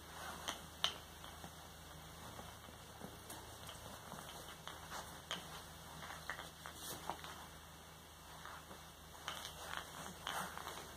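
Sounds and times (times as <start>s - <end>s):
low steady hum: 0.0s - 10.9s
toy rings ticking and rustling: 0.2s - 7.4s, 8.5s - 10.9s.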